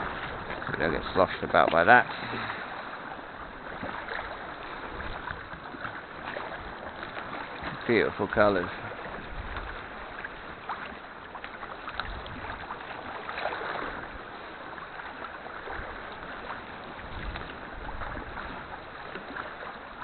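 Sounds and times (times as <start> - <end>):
paddle splashing and dripping: 0.0 - 20.0
water lapping at hull: 0.0 - 20.0.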